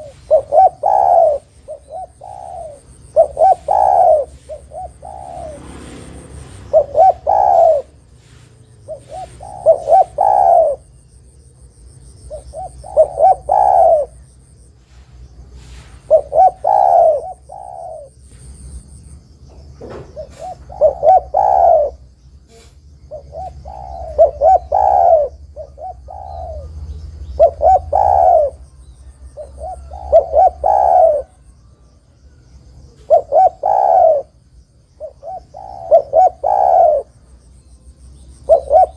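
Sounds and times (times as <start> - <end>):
dove cooing: 0.0 - 11.1, 12.1 - 18.7, 19.8 - 37.4, 38.2 - 38.9.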